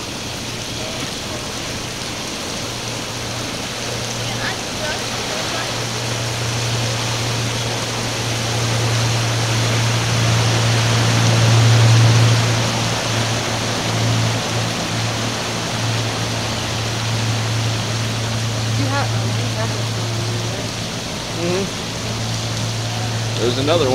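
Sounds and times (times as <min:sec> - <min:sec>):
boat engines droning: 0:00.0 - 0:23.9
steady rushing noise: 0:00.0 - 0:23.9.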